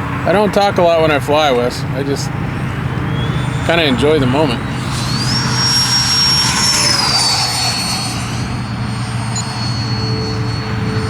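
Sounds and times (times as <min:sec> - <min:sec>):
model jet fan whine: 0:00.0 - 0:11.0
rushing air: 0:01.8 - 0:11.0.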